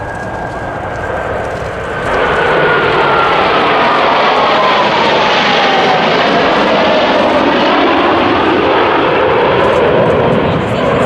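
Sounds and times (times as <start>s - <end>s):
jet whine falling in pitch: 0.0s - 11.0s
jets roaring past: 0.0s - 11.0s.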